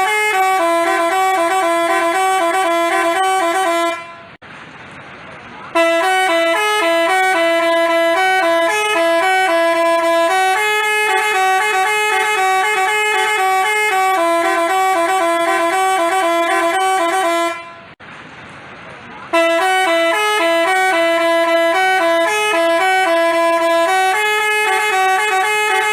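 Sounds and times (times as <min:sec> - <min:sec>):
multi-tone bus horn melody: 0:00.0 - 0:04.4, 0:05.7 - 0:18.0, 0:19.3 - 0:25.9.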